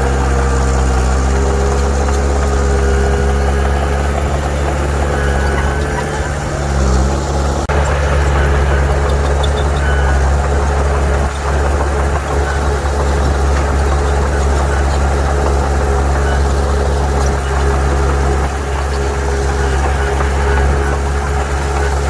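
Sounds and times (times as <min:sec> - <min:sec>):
diesel engine low hum: 0:00.0 - 0:22.0.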